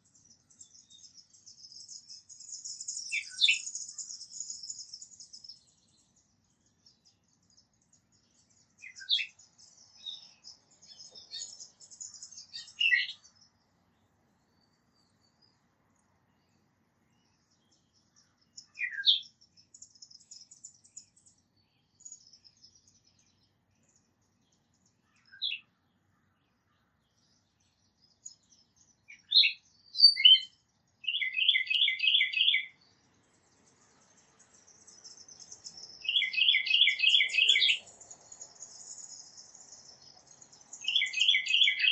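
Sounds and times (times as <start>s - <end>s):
bird trill: 0.0s - 13.6s, 17.2s - 41.9s
small songbirds chirping: 0.0s - 41.9s.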